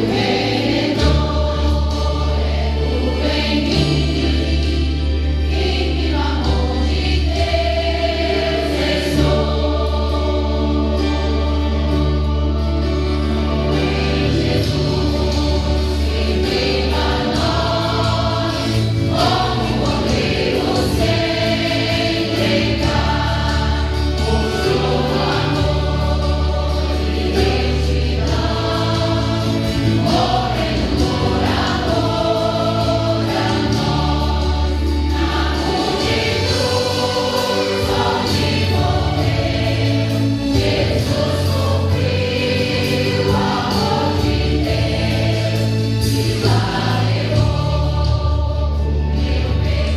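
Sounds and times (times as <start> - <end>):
instrumental accompaniment: 0.0 - 49.9
women's choir singing a hymn: 0.0 - 49.9.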